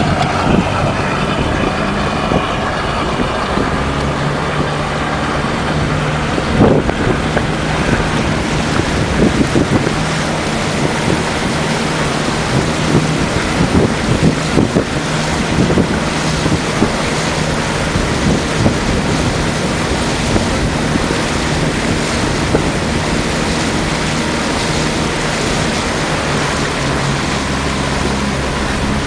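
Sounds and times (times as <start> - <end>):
deep engine hum: 0.0 - 29.0
motorboat engine running: 0.0 - 29.0
wind buffeting microphone: 0.0 - 29.0.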